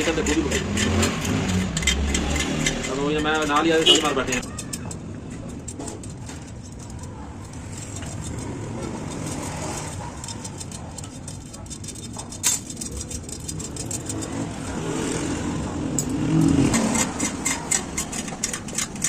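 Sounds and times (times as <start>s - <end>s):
road traffic passing: 0.0s - 19.0s
vehicle engine: 0.0s - 19.0s.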